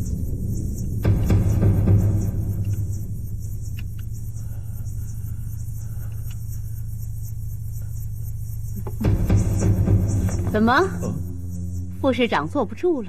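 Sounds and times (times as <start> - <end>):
low rumbling music drone: 0.0 - 13.0.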